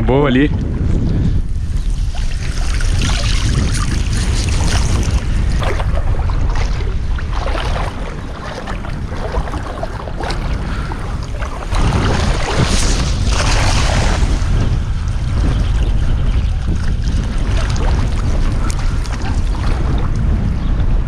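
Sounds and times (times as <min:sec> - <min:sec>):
wind buffeting microphone: 0:00.0 - 0:21.0
surf and water splashing: 0:01.5 - 0:20.5.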